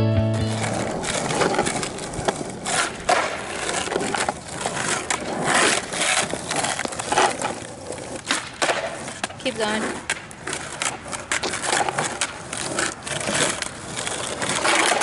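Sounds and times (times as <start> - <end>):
skateboard wheels rolling on asphalt: 0.0 - 15.0
skateboard scraping and knocking: 0.2 - 15.0.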